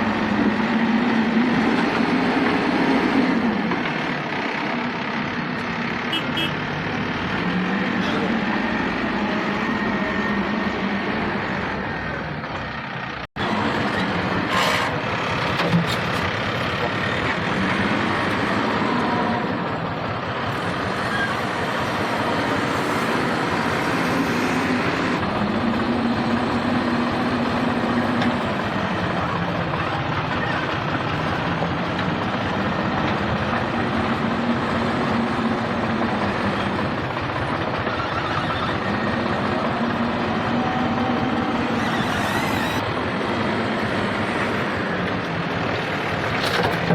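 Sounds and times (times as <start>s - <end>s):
heavy diesel engine under load: 0.0s - 46.9s.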